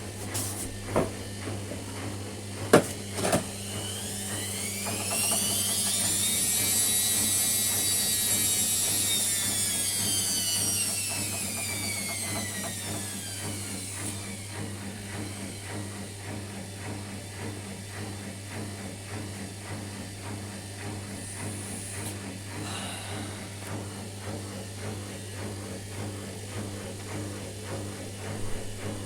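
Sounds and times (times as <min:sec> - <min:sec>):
washing machine motor whining: 0:00.0 - 0:29.0.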